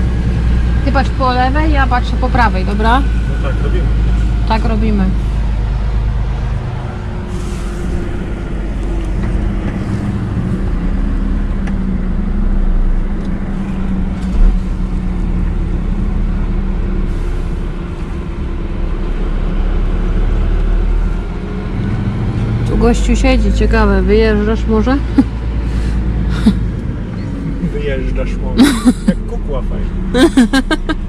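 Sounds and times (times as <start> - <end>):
diesel truck engine rumbling: 0.0 - 31.0.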